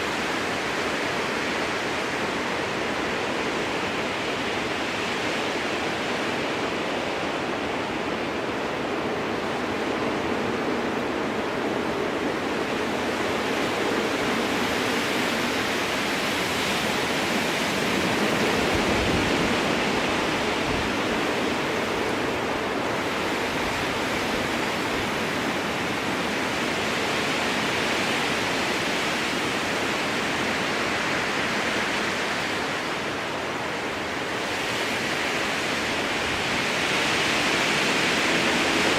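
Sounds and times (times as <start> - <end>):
strong wind through trees: 0.0 - 38.9.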